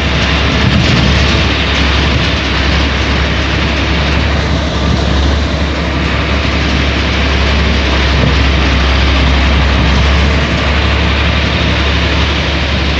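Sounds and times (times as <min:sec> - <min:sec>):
diesel machinery engine droning: 0:00.0 - 0:12.9.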